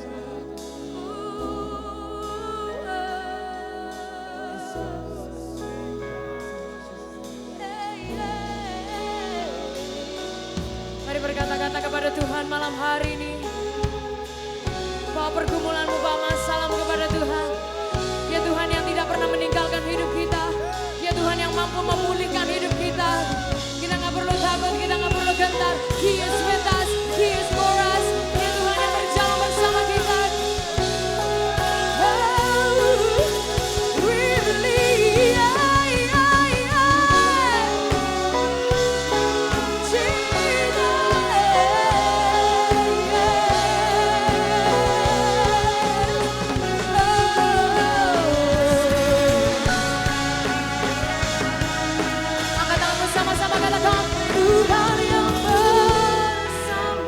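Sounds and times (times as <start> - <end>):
bass: 0.0 - 57.0
drums: 0.0 - 57.0
keyboards: 0.0 - 57.0
lead melody with vibrato: 0.0 - 57.0
pop-rock band playing: 0.0 - 57.0.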